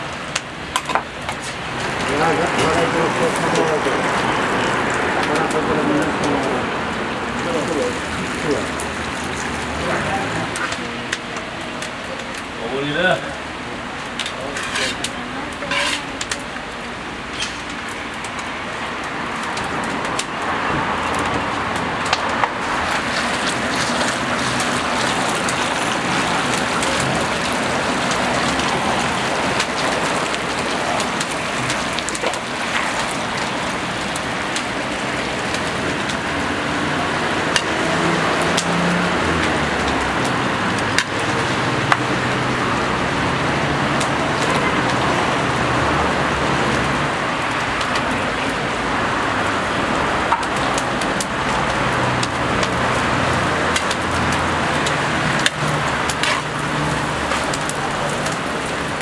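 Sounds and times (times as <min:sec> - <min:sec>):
crackles and pops: 0:00.0 - 0:59.0
food sizzling in oil: 0:00.2 - 0:05.2, 0:06.1 - 0:59.0.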